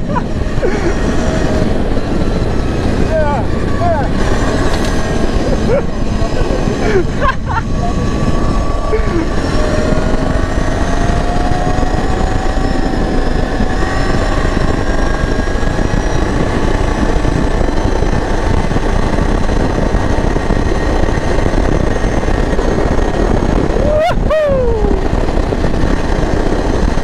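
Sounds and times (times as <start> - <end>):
atv engine running: 0.0 - 27.0
loud steady rushing noise: 0.0 - 27.0.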